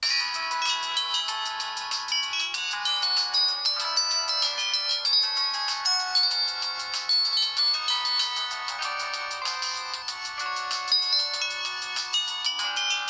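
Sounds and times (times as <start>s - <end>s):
polyphonic phone ringtone: 0.0s - 13.0s.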